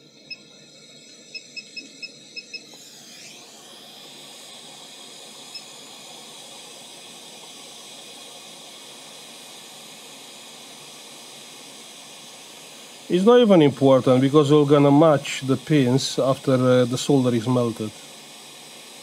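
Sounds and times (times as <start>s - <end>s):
hot air blowing hiss: 1.9s - 19.0s.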